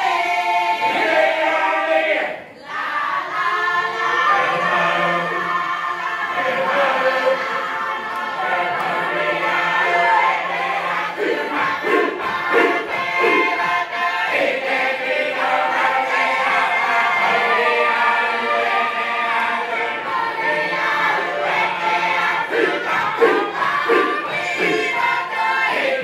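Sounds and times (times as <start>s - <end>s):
group singing in harmony: 0.0s - 26.0s.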